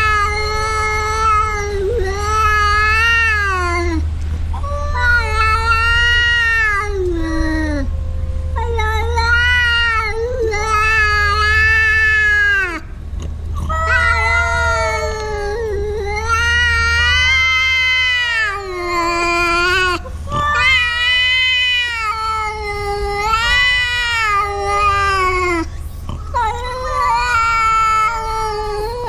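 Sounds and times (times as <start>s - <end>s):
cat yowling: 0.0s - 12.9s, 13.6s - 29.0s.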